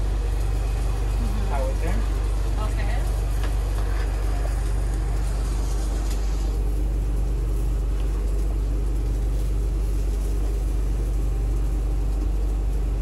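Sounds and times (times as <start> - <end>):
machinery humming and rumbling: 0.0 - 13.0.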